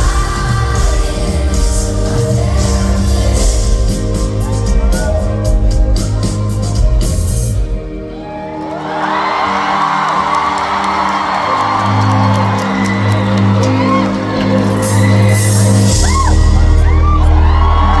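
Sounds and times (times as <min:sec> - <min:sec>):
live pop band with singing: 0:00.0 - 0:08.4, 0:10.2 - 0:18.0
crowd cheering and screaming: 0:00.0 - 0:18.0.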